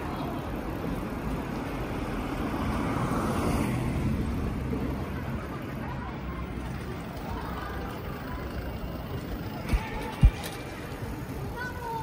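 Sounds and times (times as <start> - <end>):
low rumble of road and wind: 0.0 - 12.0.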